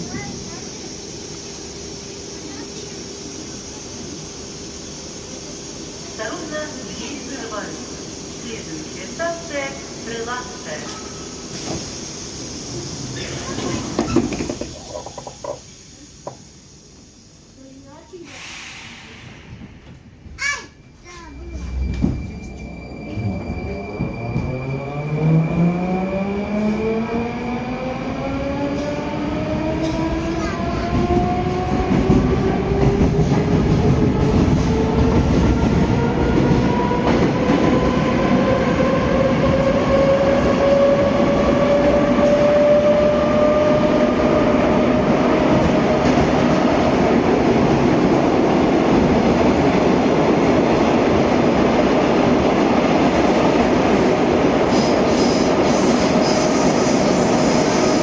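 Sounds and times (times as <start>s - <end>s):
metro train drive whining: 0.0s - 58.0s.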